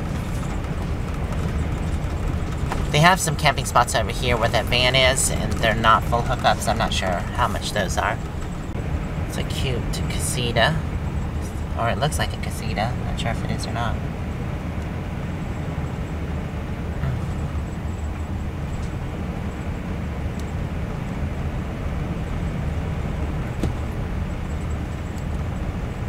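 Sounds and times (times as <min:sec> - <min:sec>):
engine and road rumble: 0:00.0 - 0:26.0.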